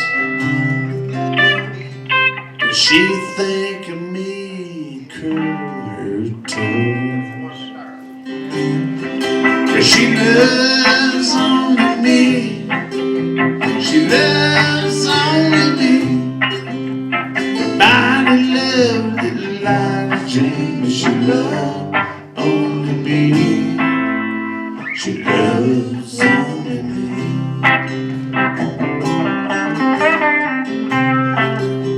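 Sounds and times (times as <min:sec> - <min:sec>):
country band guitars playing: 0:00.0 - 0:31.9.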